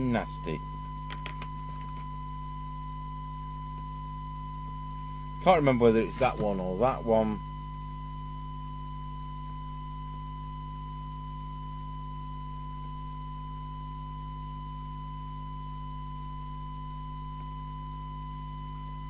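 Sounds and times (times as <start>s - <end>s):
low hum: 0.0s - 19.0s
steady test tone: 0.0s - 19.0s.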